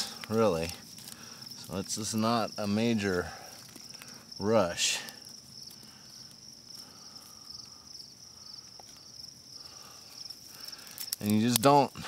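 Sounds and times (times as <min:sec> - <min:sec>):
fire crackling: 0:00.0 - 0:12.0
insects chirping: 0:00.0 - 0:12.0.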